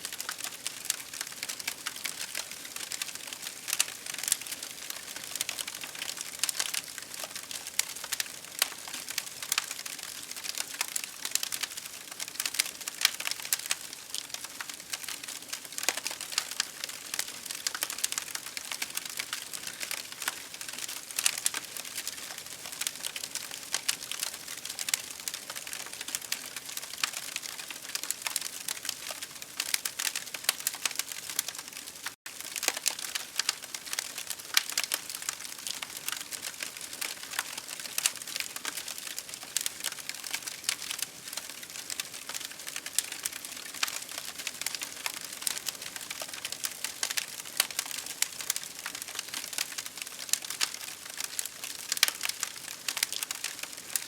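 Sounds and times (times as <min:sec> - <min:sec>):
campfire crackling and popping: 0:00.1 - 0:54.0.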